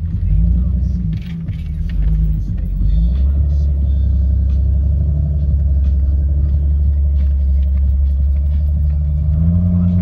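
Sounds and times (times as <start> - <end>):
vehicle driving on dirt road: 0.0 - 10.0.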